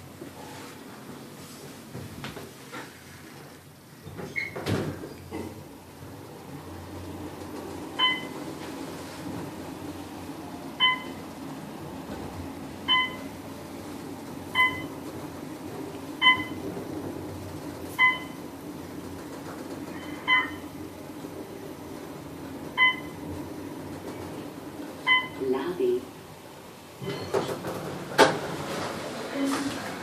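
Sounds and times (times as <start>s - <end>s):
elevator hum: 0.0s - 30.0s.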